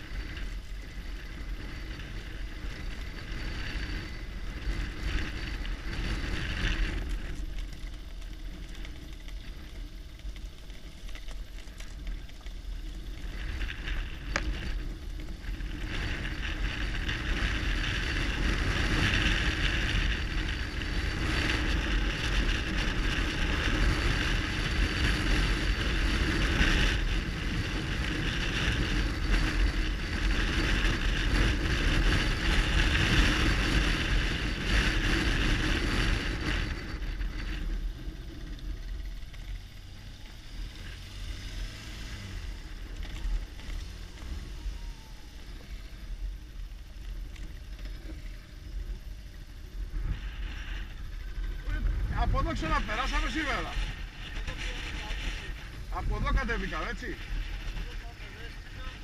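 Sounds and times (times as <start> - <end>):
wind noise on microphone: 0.0 - 10.3, 11.9 - 59.0
motorcycle engine running: 0.0 - 59.0.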